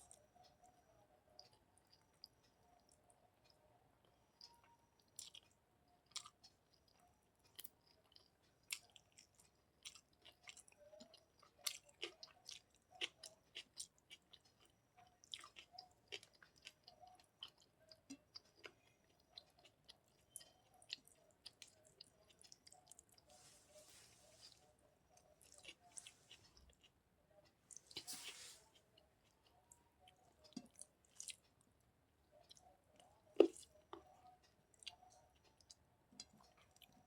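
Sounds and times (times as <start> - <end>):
chewing with wet mouth clicks: 1.4 - 23.3, 25.1 - 27.0, 28.7 - 31.6, 32.3 - 37.0.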